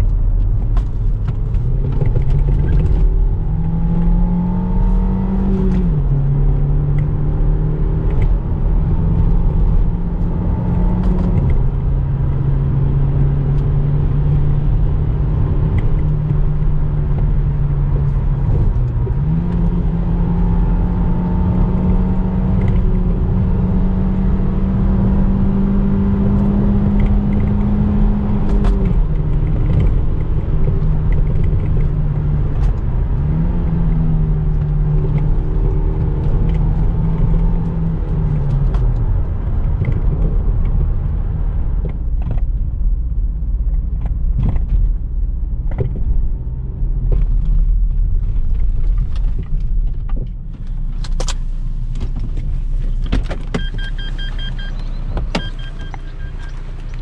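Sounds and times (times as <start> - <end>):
car engine running: 0.0 - 57.0
road and tyre rumble: 0.0 - 57.0.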